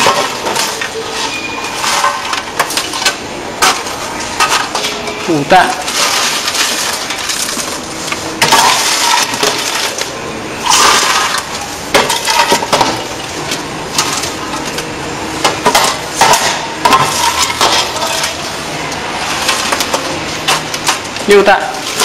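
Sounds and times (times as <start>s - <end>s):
popcorn rustling and scraping: 0.0s - 22.0s.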